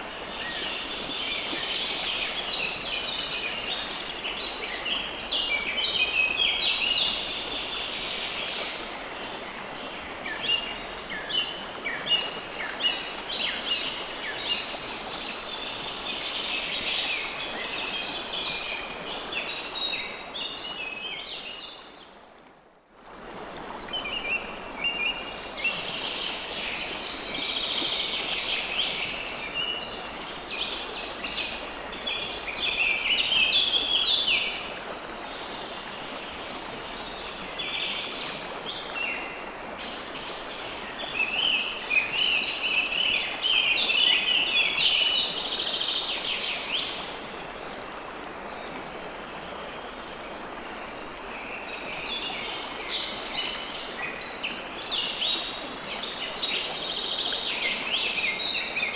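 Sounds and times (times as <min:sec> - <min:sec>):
river water running: 0:00.0 - 0:58.9.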